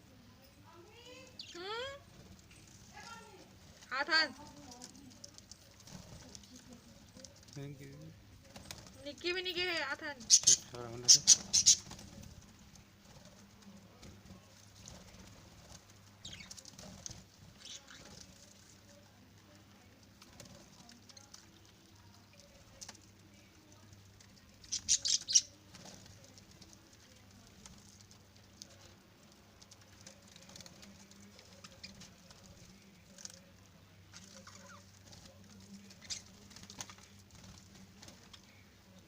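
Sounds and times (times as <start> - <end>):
faint low hum: 0.0 - 39.0
small patters and ticks: 0.1 - 39.0
wings flapping and splashing: 1.8 - 7.8, 8.4 - 9.4, 10.0 - 39.0.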